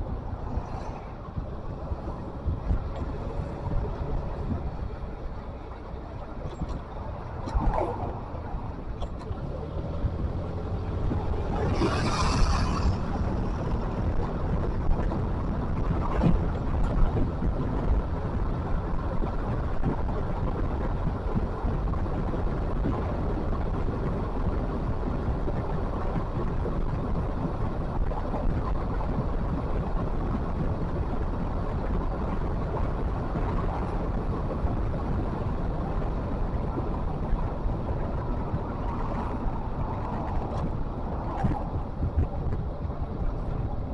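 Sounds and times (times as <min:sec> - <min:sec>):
moving vehicle rumble: 0:00.0 - 0:43.9.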